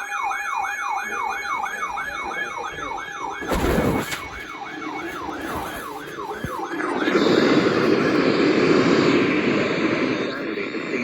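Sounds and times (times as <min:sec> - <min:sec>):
siren yelping: 0:00.0 - 0:10.4
rush of noise: 0:02.0 - 0:11.0.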